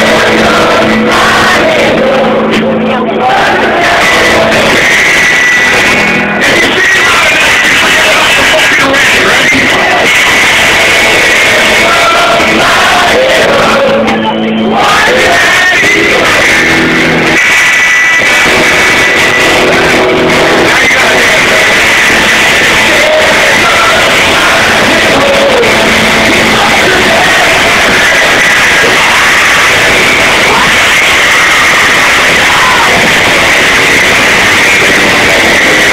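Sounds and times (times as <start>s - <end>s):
live rock band with singer: 0.0s - 35.9s.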